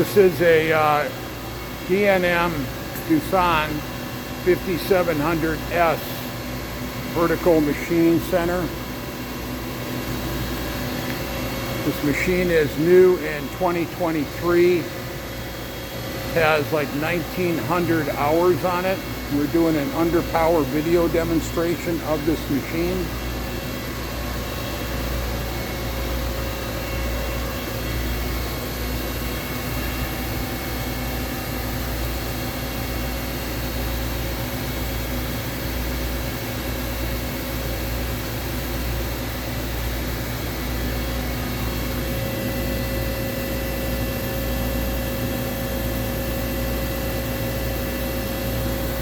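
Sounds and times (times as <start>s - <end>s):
machining center humming: 0.0s - 49.0s.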